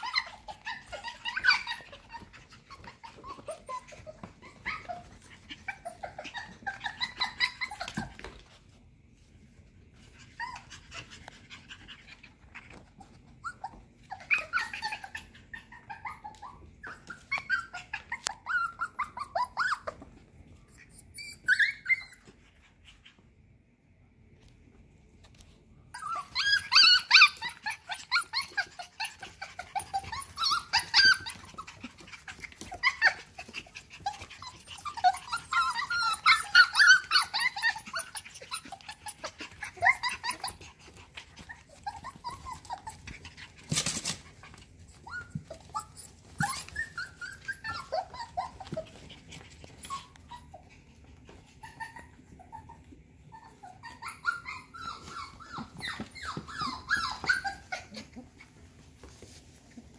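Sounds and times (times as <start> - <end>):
puppies yipping and growling: 0.0 - 23.6, 25.4 - 59.9.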